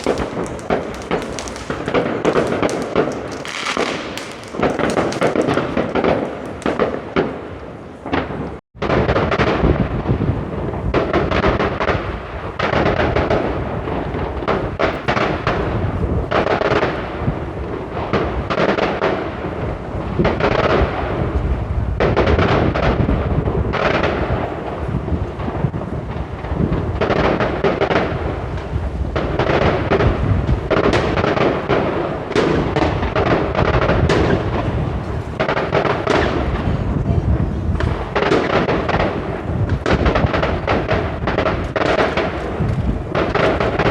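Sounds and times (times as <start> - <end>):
fireworks and firecrackers banging: 0.0 - 43.9.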